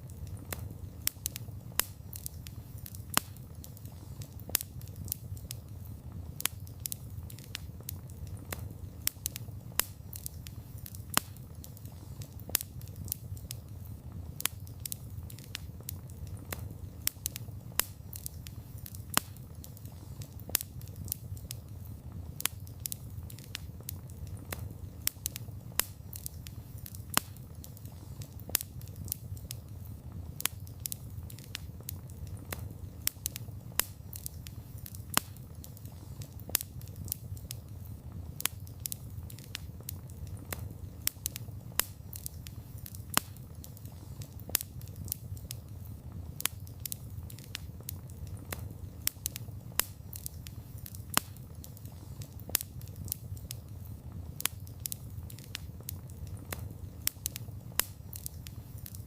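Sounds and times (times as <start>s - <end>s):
burning wood crackling and popping: 0.0s - 59.0s
low rumble of campfire: 0.0s - 59.0s.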